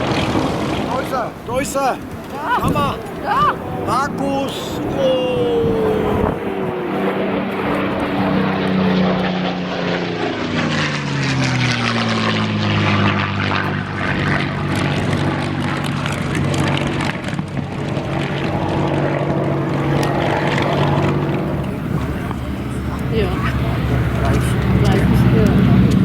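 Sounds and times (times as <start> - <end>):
model airplane engine: 0.0 - 26.0.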